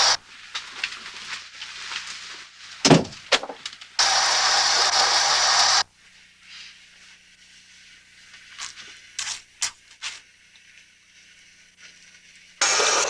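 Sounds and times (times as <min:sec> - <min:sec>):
shower water hissing: 0:00.0 - 0:13.0.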